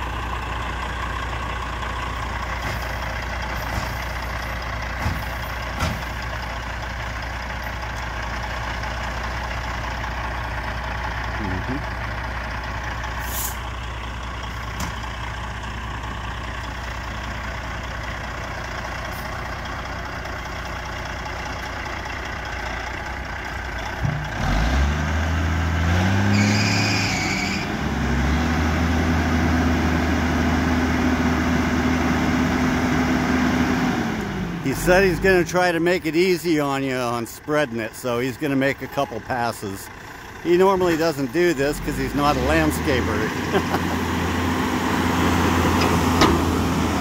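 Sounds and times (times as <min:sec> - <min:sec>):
diesel truck engine: 0:00.0 - 0:47.0.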